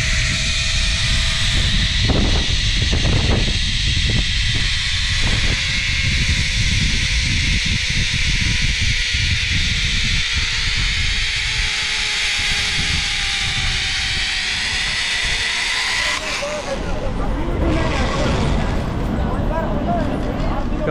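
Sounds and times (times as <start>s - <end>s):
zipline pulleys hissing on cable: 0.0s - 18.8s
wind on microphone: 0.0s - 20.9s.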